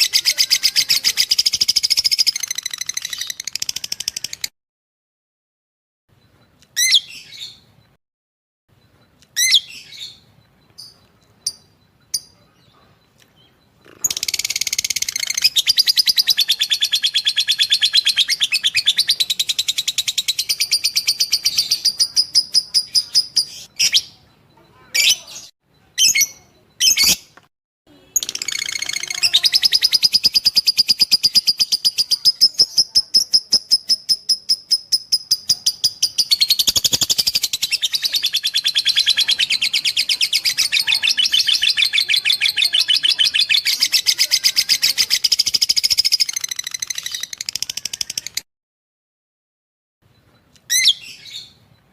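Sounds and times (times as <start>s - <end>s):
lovebird chirping song: 0.0s - 4.5s, 6.2s - 7.9s, 8.7s - 48.4s, 50.1s - 51.9s.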